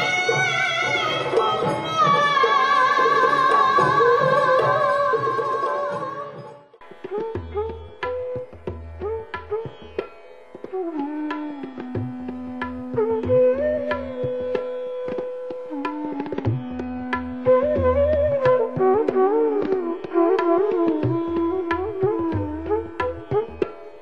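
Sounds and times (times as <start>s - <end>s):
tabla drumming: 0.0s - 24.0s.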